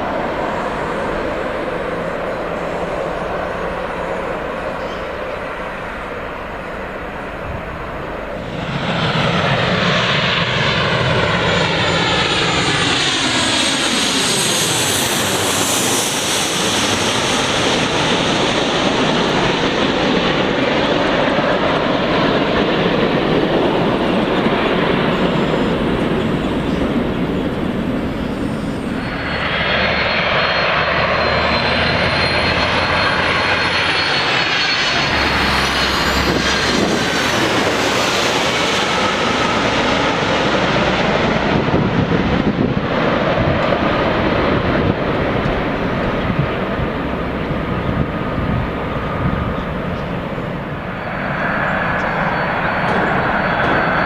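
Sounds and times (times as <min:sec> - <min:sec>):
jet engines roaring overhead: 0:00.0 - 0:54.0.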